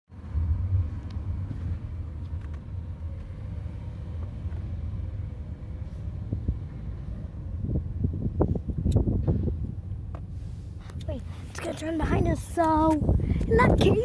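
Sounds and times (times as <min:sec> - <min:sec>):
diesel engine rumbling: 0:00.1 - 0:14.0.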